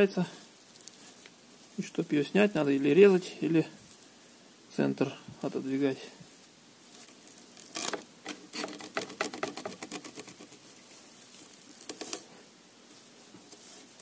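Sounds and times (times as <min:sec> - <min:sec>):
plastic turnings rustling and crackling: 0:00.0 - 0:04.1, 0:05.6 - 0:14.0.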